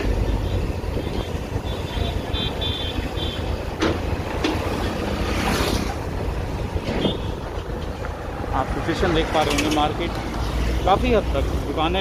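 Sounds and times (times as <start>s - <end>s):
passing traffic: 0.0s - 12.0s
vehicle road rumble: 0.0s - 12.0s.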